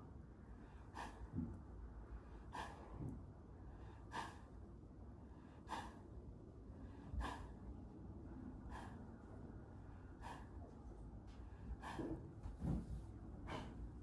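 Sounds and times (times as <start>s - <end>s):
horse breathing heavily: 0.6s - 4.7s, 5.5s - 14.0s.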